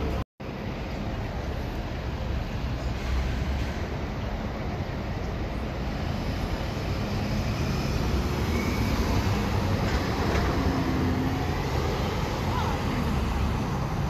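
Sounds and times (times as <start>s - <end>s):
low rumble of city street: 0.0s - 14.0s.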